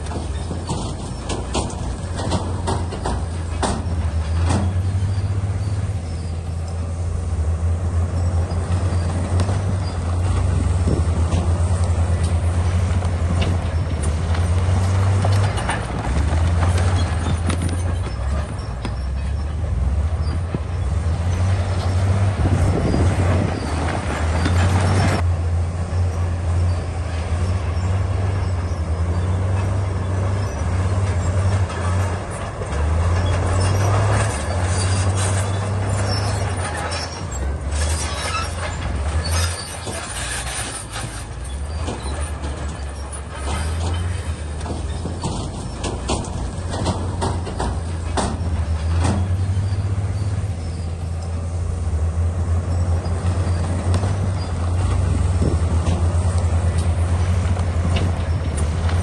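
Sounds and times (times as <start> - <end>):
metal clanks: 0.0 - 6.9, 8.1 - 25.2, 27.4 - 51.6
bulldozer diesel engine running: 0.0 - 59.0.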